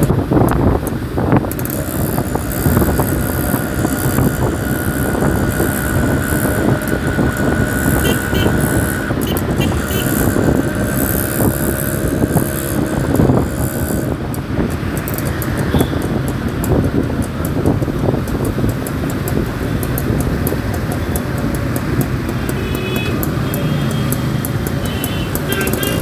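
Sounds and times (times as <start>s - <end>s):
wind rumbling on microphone: 0.0s - 22.4s
city traffic from moving vehicle: 0.0s - 26.0s.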